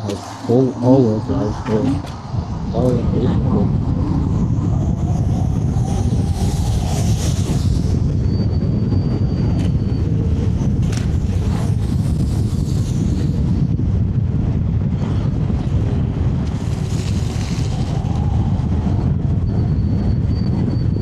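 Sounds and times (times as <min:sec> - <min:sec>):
wind rumble on microphone: 0:00.0 - 0:21.0
scooter riding noise: 0:01.7 - 0:19.4.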